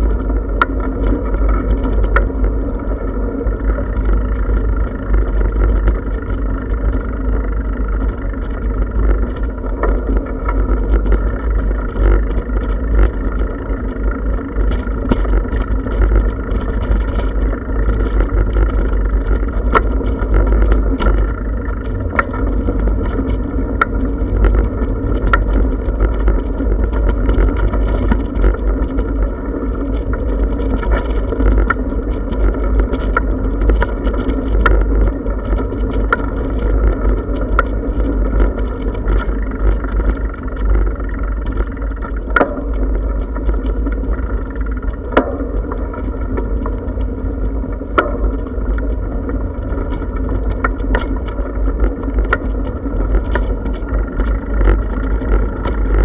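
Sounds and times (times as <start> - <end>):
bicycle rattling over bumps: 0.0 - 56.0
bicycle tyres rumbling on bricks: 0.0 - 56.0
wind on microphone: 0.0 - 56.0.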